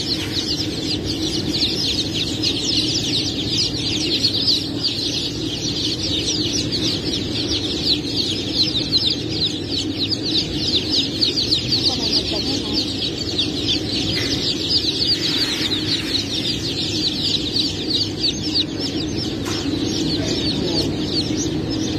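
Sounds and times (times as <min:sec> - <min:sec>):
chicks peeping: 0:00.0 - 0:21.9.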